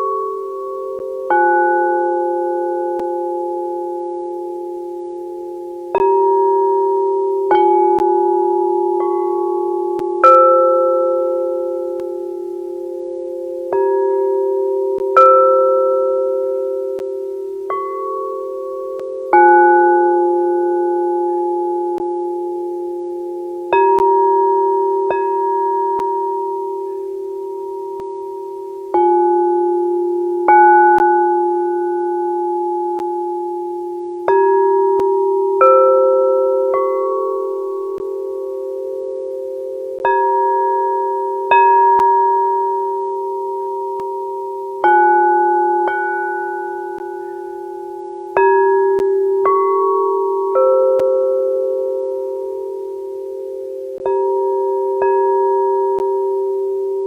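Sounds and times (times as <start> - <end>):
singing bowls ringing: 0.0 - 57.0.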